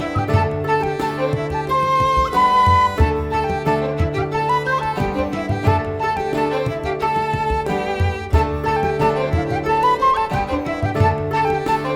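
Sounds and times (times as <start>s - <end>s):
violin-like melody over a beat: 0.0s - 11.9s.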